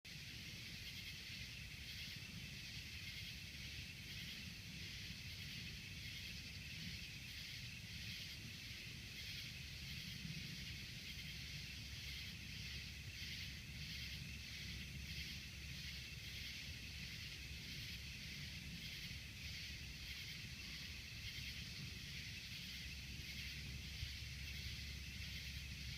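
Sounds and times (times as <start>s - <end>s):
insects chirping: 0.1s - 25.9s.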